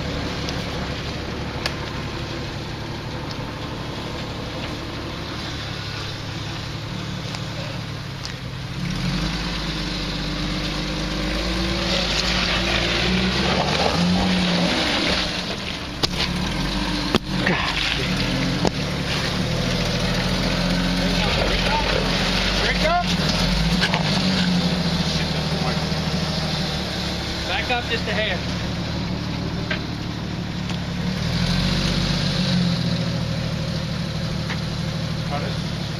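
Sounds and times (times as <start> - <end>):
off-road vehicle engine revving: 0.0 - 35.9.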